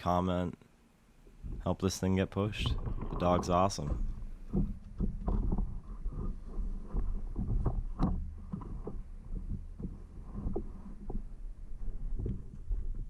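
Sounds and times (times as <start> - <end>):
low steady rumble: 0.8 - 13.0
soft knocks and thumps: 1.2 - 13.0.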